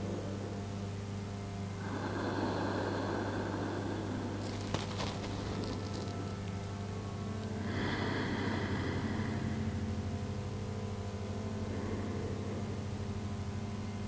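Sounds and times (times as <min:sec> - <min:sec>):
faint hiss: 0:00.0 - 0:14.0
steady hum: 0:00.0 - 0:14.0.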